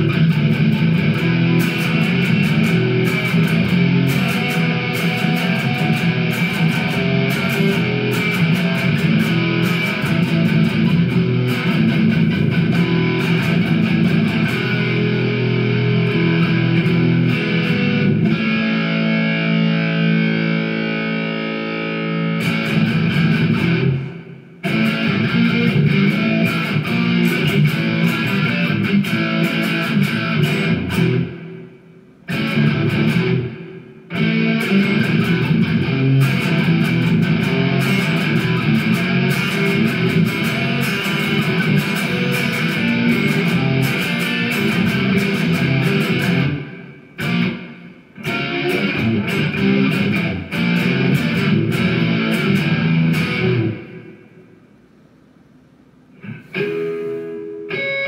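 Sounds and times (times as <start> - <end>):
distorted electric guitar: 0.0 - 54.8, 56.1 - 58.0.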